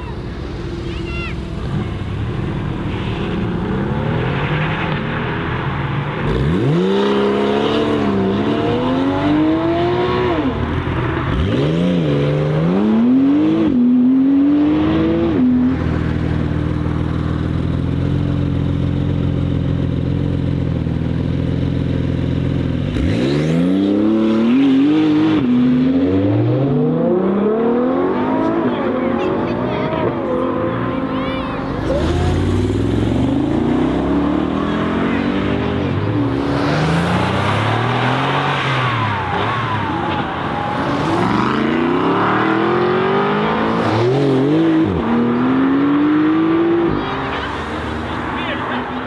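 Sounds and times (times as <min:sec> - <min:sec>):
sports car engines accelerating: 0:00.0 - 0:49.0.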